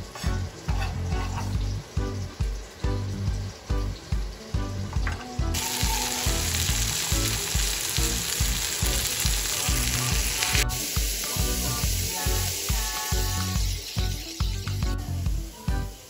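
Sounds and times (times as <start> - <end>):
background music with beat: 0.0 - 16.0
chicken sizzling in oil: 0.0 - 16.0.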